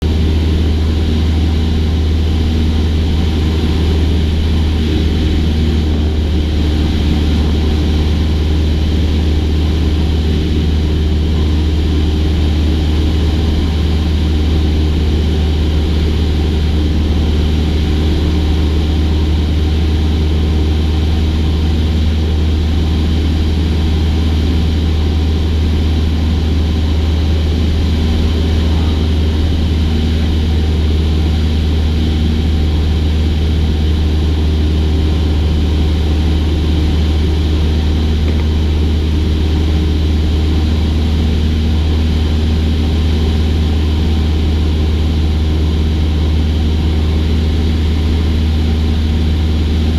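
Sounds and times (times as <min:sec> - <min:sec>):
propeller plane engine drone: 0:00.0 - 0:49.9.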